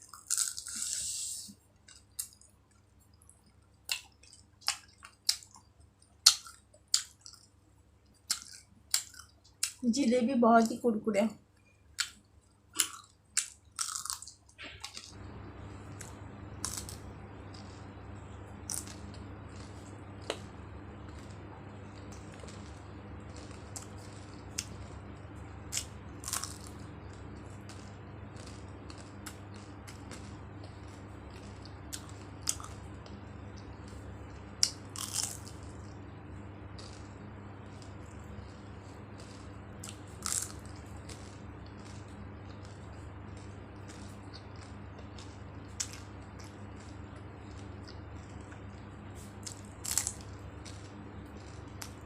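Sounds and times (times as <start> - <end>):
crunching and chewing food: 0.0 - 10.0, 11.5 - 52.0
steady low hum: 0.0 - 52.0.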